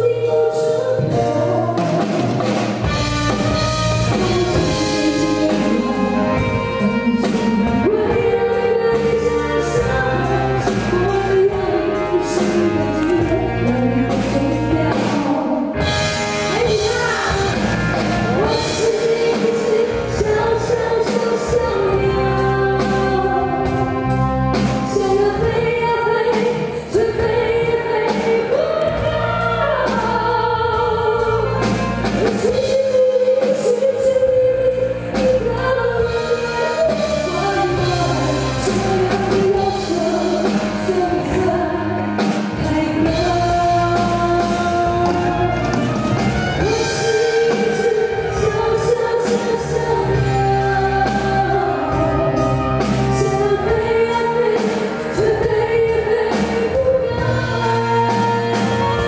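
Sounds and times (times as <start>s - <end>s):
band playing: 0.0s - 59.0s
woman singing into a microphone: 0.0s - 59.0s
drum kit steady beat: 1.0s - 59.0s.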